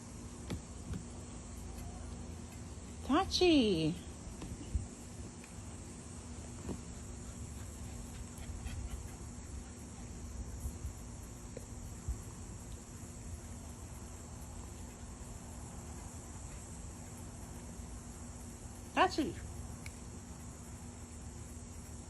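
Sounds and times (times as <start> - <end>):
insects chirring: 0.0 - 22.0
low steady hum: 0.0 - 22.0.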